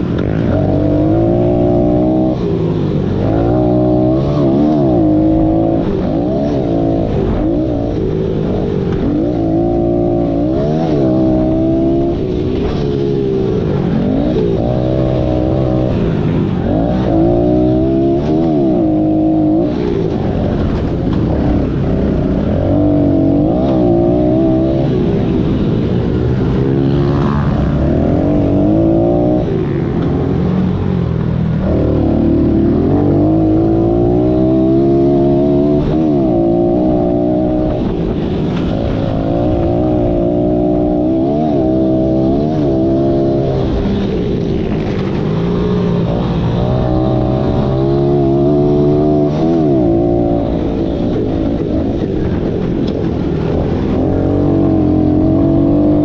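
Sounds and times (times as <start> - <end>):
pit bike engine revving: 0.0 - 56.0.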